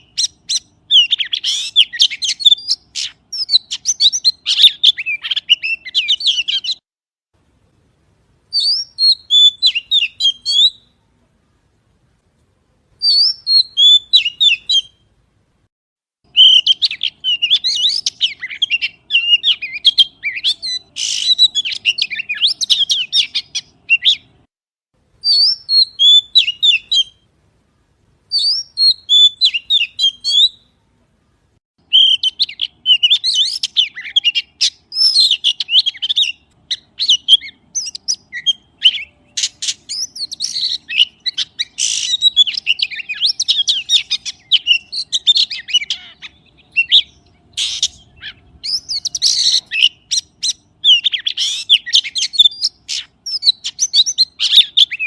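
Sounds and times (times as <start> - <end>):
magpie chirping and whistling: 0.0 - 6.8, 8.5 - 10.9, 13.0 - 15.0, 16.3 - 24.3, 25.2 - 27.2, 28.3 - 30.7, 31.8 - 55.0.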